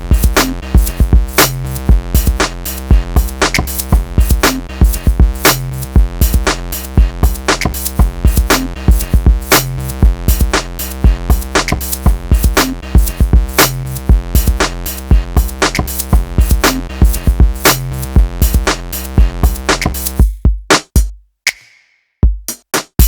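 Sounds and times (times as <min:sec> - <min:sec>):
electronic music: 0:00.0 - 0:20.3.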